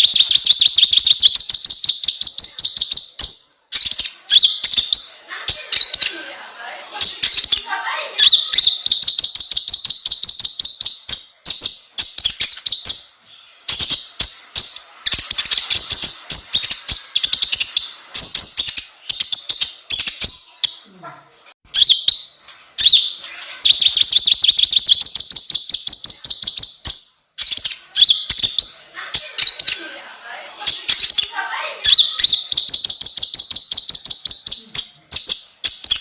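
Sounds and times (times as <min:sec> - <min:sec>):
bird singing high chattering trills: 0:00.0 - 0:21.0, 0:21.7 - 0:36.0.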